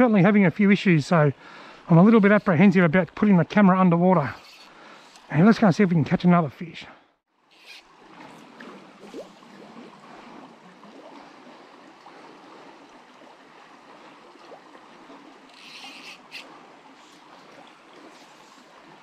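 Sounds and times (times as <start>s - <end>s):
stream water trickling: 0.0s - 19.0s.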